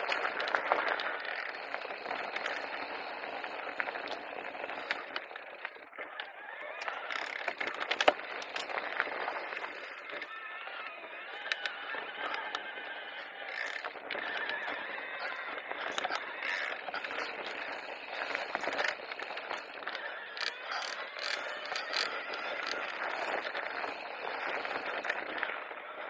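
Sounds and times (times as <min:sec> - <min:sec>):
bike rattling and clicking: 0:00.0 - 0:26.0
tyres rolling over rough ground: 0:00.0 - 0:26.0.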